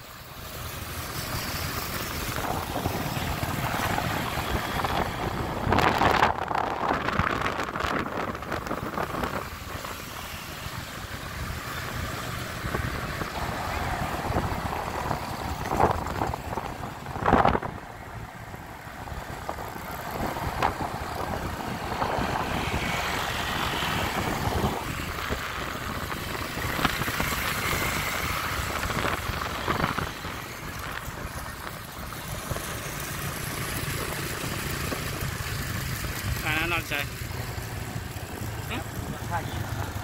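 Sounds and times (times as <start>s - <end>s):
motorbike engine and road noise: 0.0s - 40.0s
motorbikes passing: 0.0s - 40.0s.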